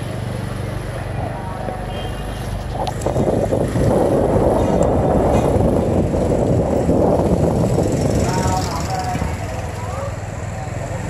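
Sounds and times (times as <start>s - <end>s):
motorbike engine running: 0.0s - 11.0s
wind rumbling on microphone: 0.0s - 11.0s.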